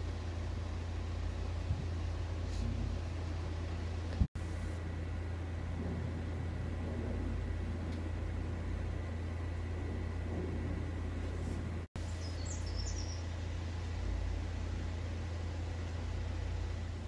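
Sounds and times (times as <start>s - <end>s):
room hum with faint hiss: 0.0s - 17.0s.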